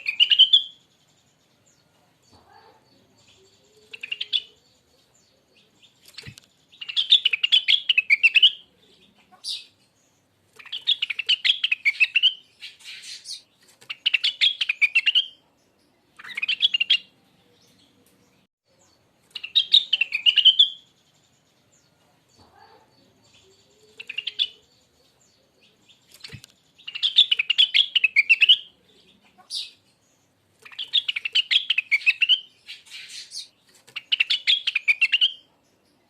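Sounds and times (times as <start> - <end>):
songbird chirping: 0.0 - 36.0.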